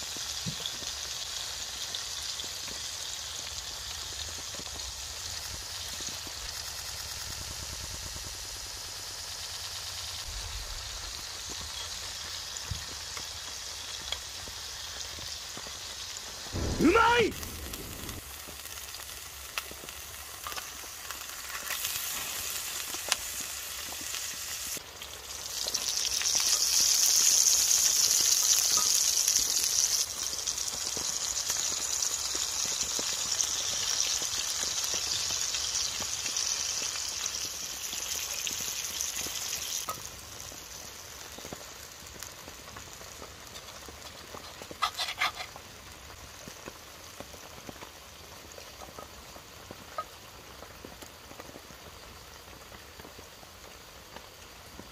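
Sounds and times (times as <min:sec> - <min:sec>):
meat patty sizzling: 0:00.0 - 0:54.9.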